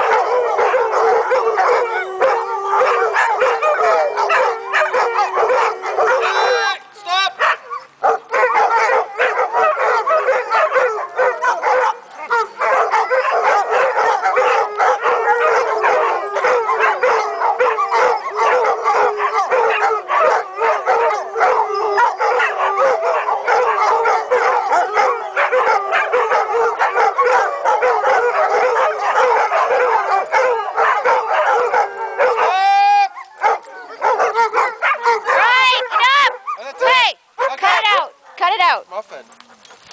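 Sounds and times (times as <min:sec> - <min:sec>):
dogs yipping and barking: 0:00.0 - 0:06.8, 0:07.4 - 0:39.9
pack of dogs howling: 0:00.0 - 0:39.9.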